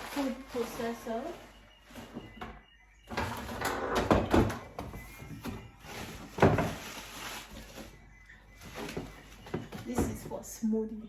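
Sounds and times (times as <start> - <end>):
plastic parts rustling and clattering: 0.0 - 10.3.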